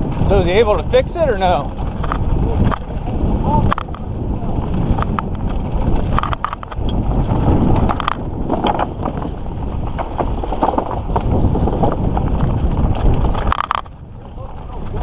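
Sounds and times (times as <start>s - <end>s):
bike clicks and rattles: 0.0s - 15.0s
bike tyres on dirt trail: 0.0s - 15.0s.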